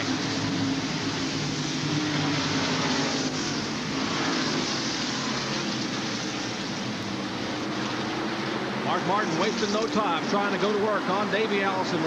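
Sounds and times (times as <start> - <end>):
race car engines at full throttle: 0.0 - 12.0.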